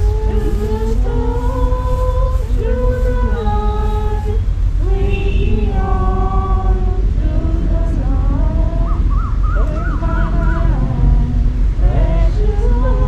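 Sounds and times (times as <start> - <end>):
group singing a hymn: 0.0 - 13.0
low rumble: 0.0 - 13.0.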